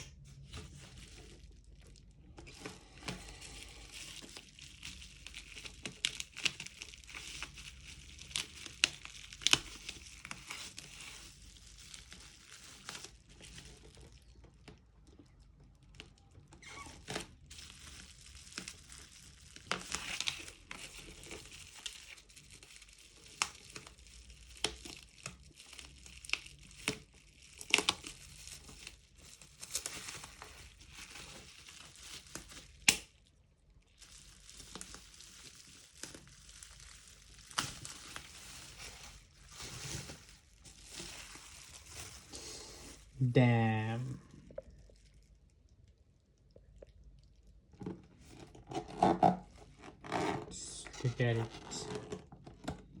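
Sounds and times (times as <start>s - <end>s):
packaging crinkling and tearing: 0.0s - 53.0s.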